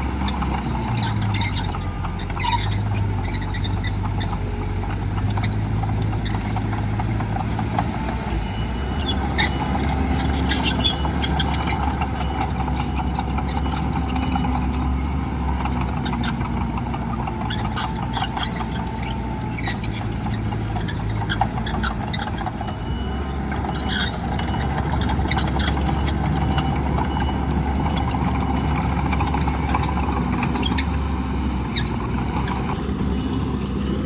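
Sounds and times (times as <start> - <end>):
heavy diesel machinery drone: 0.0 - 34.0.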